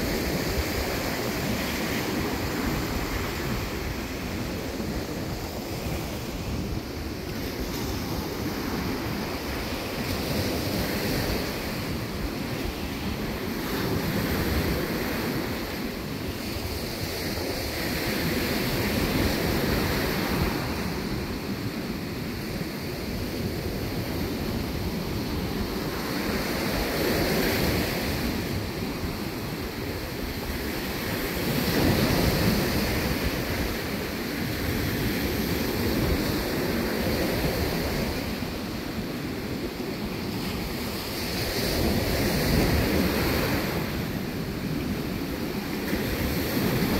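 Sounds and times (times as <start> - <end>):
ocean surf on beach: 0.0 - 46.9.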